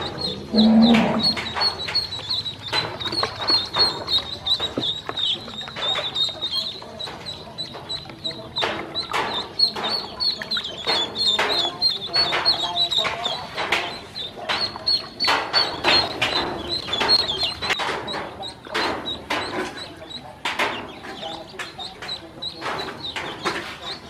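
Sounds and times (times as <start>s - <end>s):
ducklings dabbling in water: 0.0s - 24.0s
ducklings peeping: 0.0s - 24.0s.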